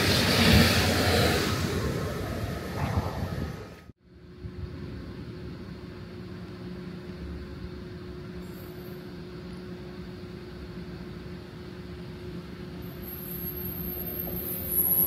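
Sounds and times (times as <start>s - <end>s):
train low rumble and hum: 0.0s - 15.0s.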